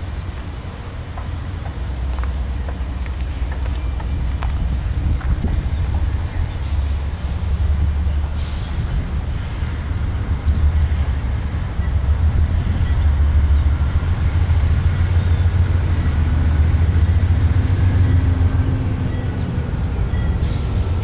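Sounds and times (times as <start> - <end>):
freight train rumble: 0.0 - 21.0.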